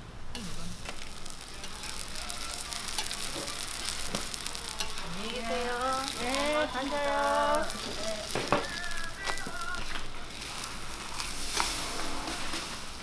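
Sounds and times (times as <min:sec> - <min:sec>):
pancakes sizzling in oil: 0:00.3 - 0:13.0.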